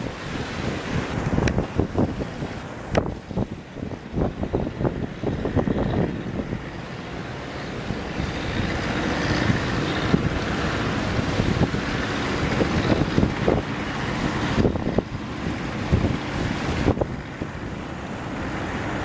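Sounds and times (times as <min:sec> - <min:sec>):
surf rushing: 0:00.0 - 0:19.0
wind buffeting microphone: 0:00.0 - 0:19.0.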